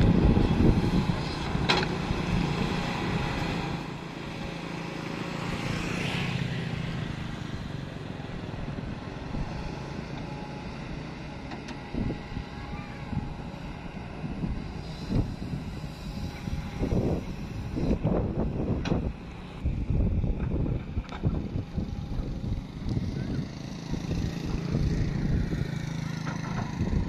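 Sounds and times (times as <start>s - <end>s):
excavator diesel engine running: 0.0s - 5.8s, 6.6s - 27.0s.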